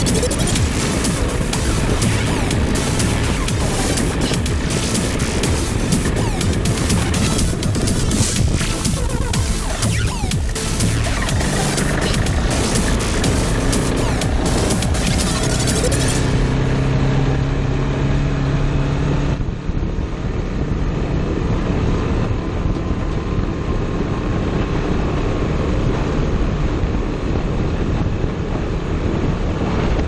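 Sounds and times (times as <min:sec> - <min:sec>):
heavy rushing noise: 0:00.0 - 0:30.0
vehicle engine running: 0:00.0 - 0:30.0.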